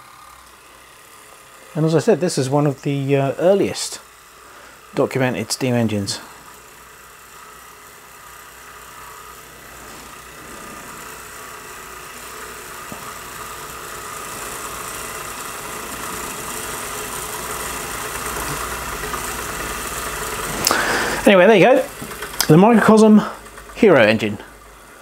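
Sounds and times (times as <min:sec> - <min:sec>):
steam engine hissing whir: 0:00.0 - 0:25.0.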